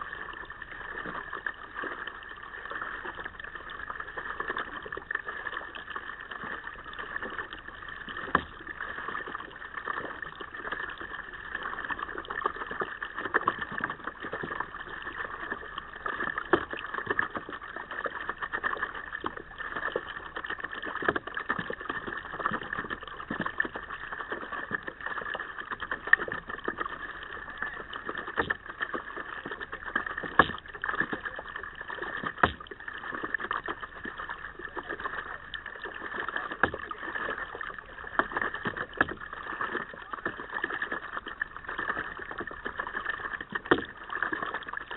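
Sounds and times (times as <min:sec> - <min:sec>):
water splashing against kayak: 0:00.0 - 0:44.9.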